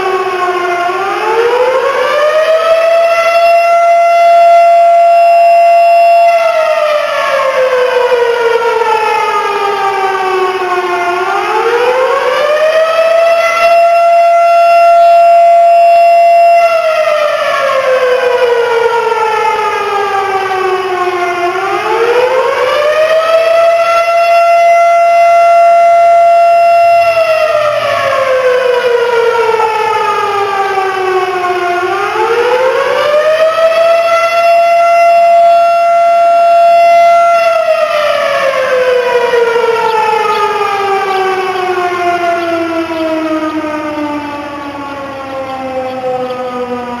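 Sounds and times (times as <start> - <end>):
fire siren wailing: 0.0 - 47.0.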